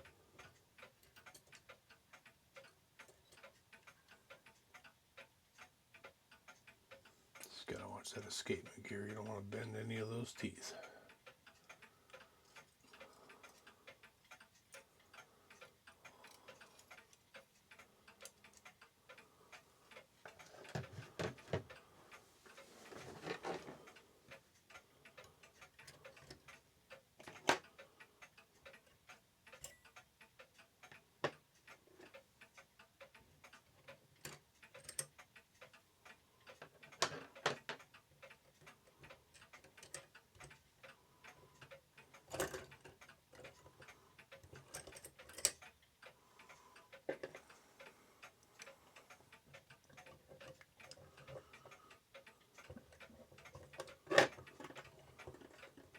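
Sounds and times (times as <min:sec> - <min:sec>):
small metal parts and tools clicking: 0:00.0 - 0:04.9, 0:09.9 - 0:21.8, 0:22.5 - 0:55.9
mechanical clock ticking: 0:00.0 - 0:55.9.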